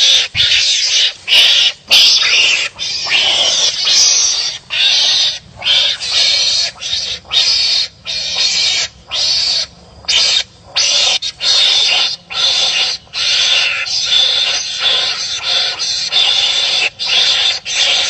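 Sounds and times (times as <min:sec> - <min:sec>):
animals raspy barking calls: 0:00.0 - 0:18.0.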